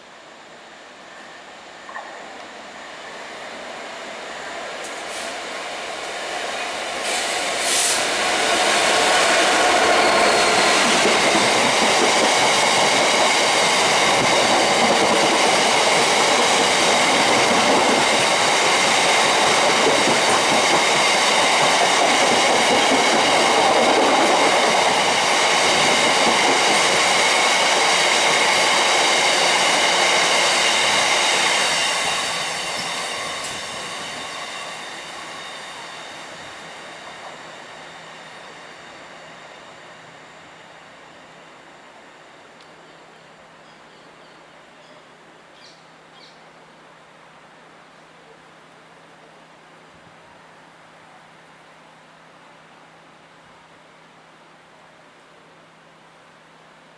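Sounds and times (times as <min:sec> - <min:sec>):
diesel locomotive passing: 0:00.1 - 0:54.8.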